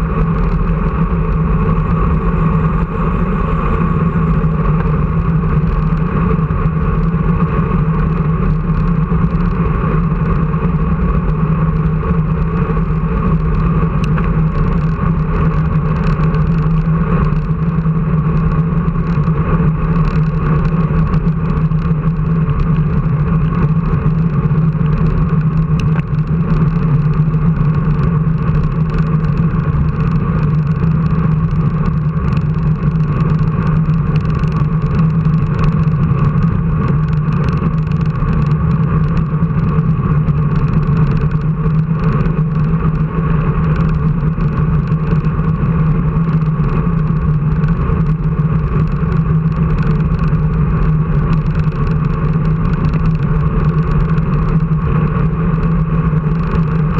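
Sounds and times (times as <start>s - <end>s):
engine droning steadily: 0.0s - 56.9s.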